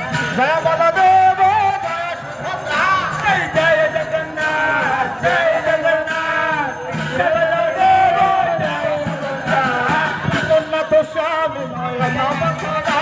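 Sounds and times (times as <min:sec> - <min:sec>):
crowd chanting devotional song: 0:00.0 - 0:13.0
crowd voices: 0:00.0 - 0:13.0
jingling percussion: 0:00.0 - 0:13.0.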